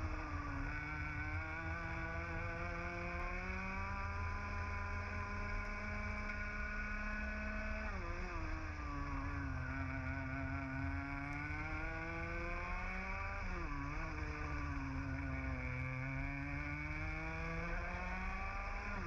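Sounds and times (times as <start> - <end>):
kart engine revving: 0.0 - 19.0.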